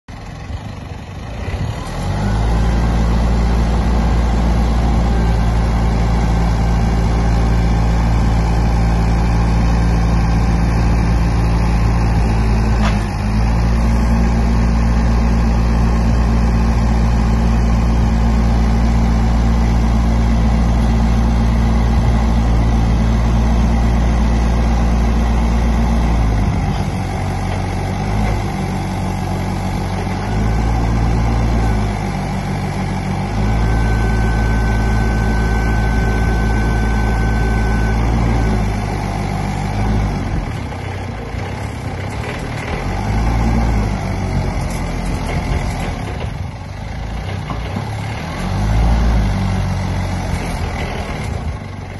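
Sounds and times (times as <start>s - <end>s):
forklift diesel engine running: 0.1s - 51.9s.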